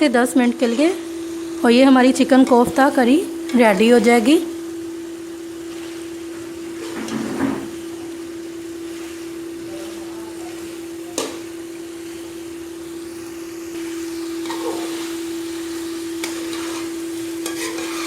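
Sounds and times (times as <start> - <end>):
curry frying in a pot: 0.0 - 18.0
steady hum: 0.0 - 18.0.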